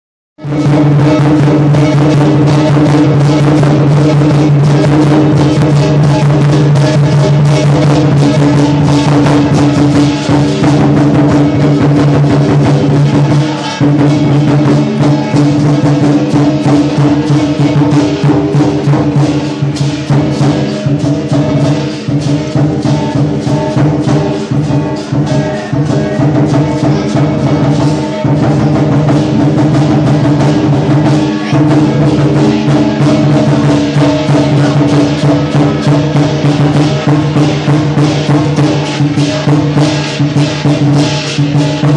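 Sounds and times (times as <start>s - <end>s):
drum beaten rapidly: 0.4s - 41.9s
metallic cymbal crashes: 0.4s - 41.9s.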